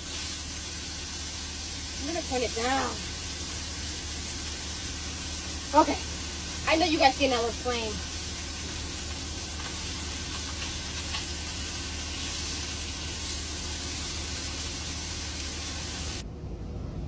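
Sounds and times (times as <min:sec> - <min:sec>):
chicken sizzling in a pan: 0:00.0 - 0:16.2.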